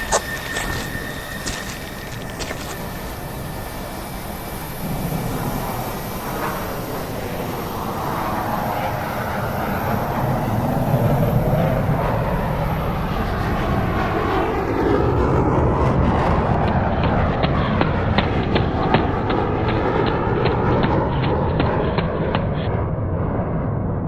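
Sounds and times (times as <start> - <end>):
droning aircraft engine: 0.0 - 24.0.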